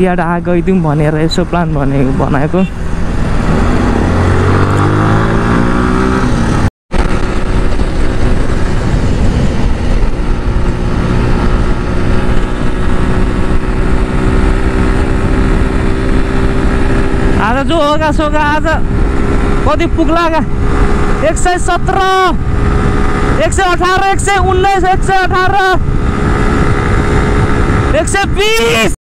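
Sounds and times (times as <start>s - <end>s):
motorcycle engine accelerating: 0.0s - 29.0s
wind noise on microphone: 0.0s - 29.0s.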